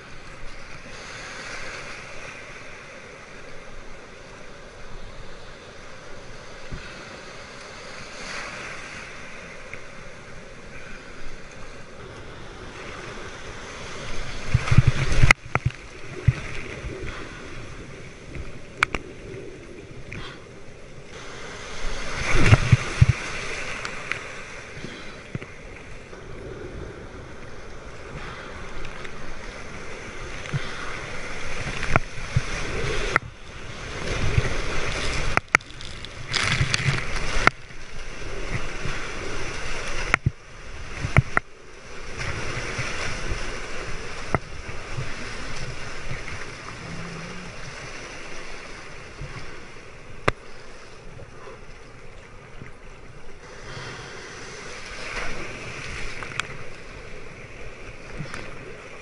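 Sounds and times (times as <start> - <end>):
surf rushing and splashing: 0.0 - 59.0.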